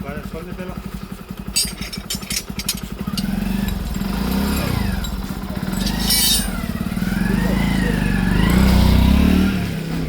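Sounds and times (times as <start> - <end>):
tractor diesel engine running: 0.0 - 9.3.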